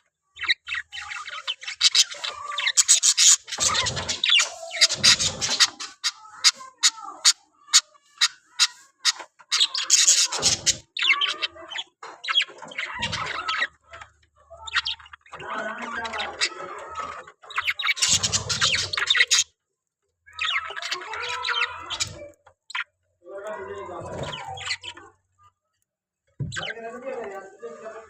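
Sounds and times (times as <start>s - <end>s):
parrot chirping and squawking: 0.4s - 19.6s, 20.3s - 23.0s, 23.9s - 25.5s.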